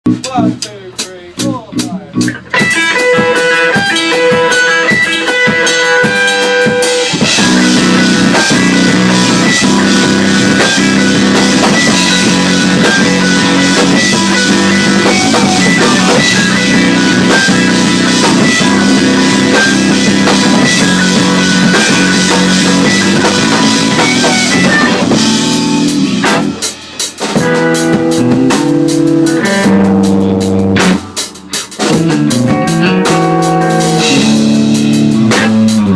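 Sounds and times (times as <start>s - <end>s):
rock band playing: 0.1s - 35.9s
electric guitar: 1.3s - 35.9s.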